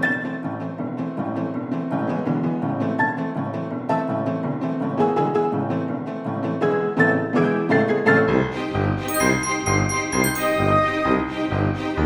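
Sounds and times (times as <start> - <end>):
piano and strings music: 0.0 - 12.0.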